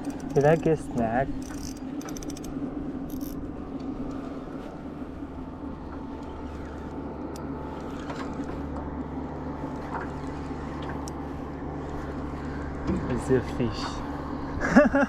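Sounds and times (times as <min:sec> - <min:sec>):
outboard motor humming: 0:00.0 - 0:14.9.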